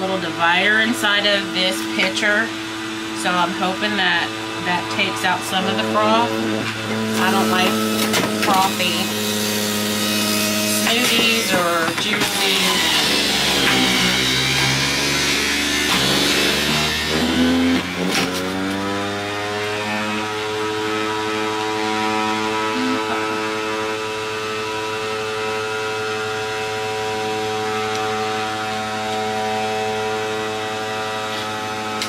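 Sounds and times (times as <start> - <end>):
juice extractor motor whining: 0.0 - 32.0.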